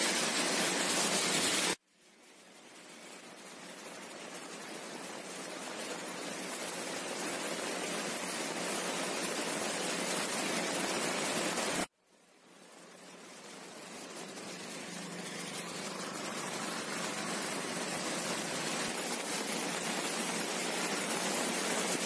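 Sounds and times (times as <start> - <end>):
heavy rain on a road: 0.0 - 1.8, 2.7 - 11.9, 12.5 - 22.0.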